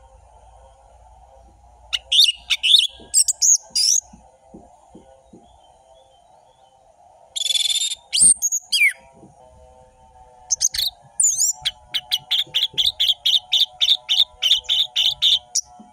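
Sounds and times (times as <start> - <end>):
thrush singing: 0.0 - 15.9.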